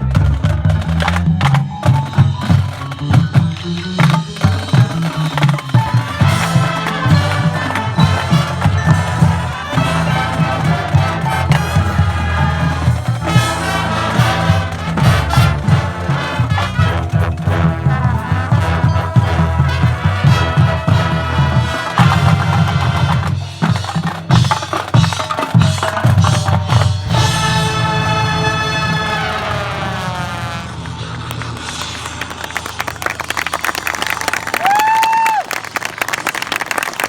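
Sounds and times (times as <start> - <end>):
marching band playing: 0.0 - 37.0.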